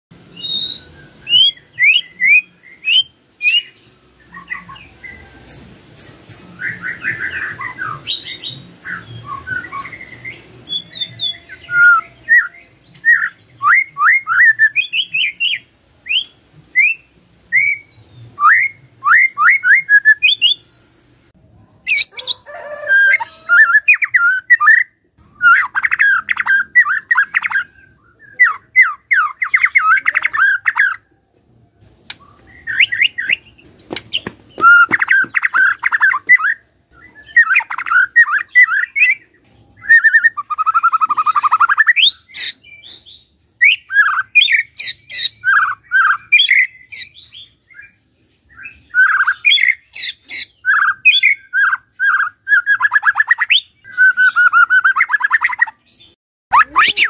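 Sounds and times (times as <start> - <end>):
bird whistled song: 0.3 - 21.1, 21.9 - 31.0, 32.1 - 57.0.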